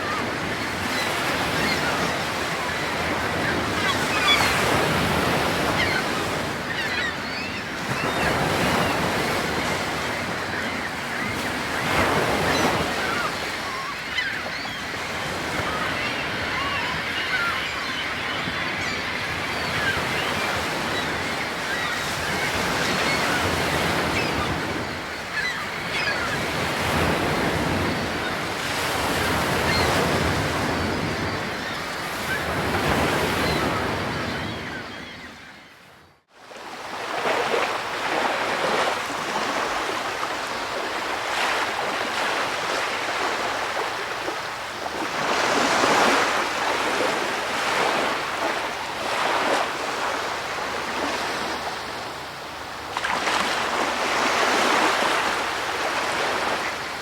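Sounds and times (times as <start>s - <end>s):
ocean waves on a shore: 0.0s - 57.0s.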